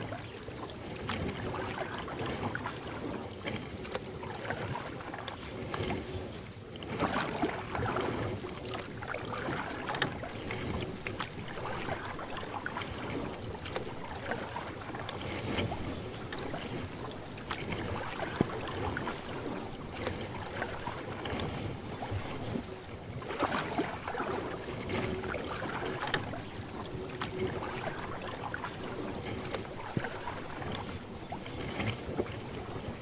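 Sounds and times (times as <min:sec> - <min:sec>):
paddle splashing in water: 0:00.0 - 0:33.0.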